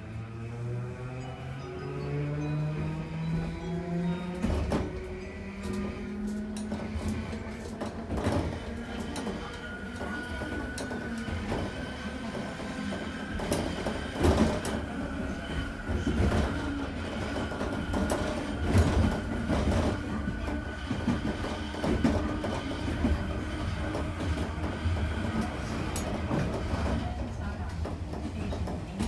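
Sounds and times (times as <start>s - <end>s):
tram running noise: 0.0s - 29.0s.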